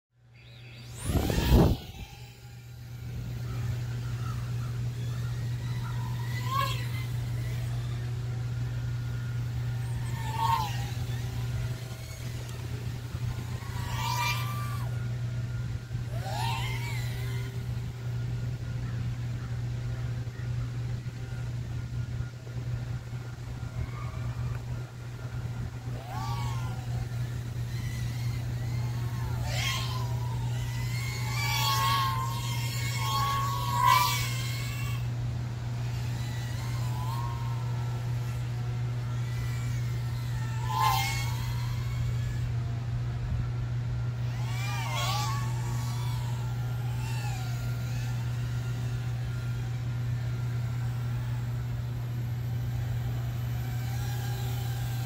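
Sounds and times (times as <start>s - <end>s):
steady low hum: 0.1s - 55.0s
drone motors whining: 0.2s - 55.0s.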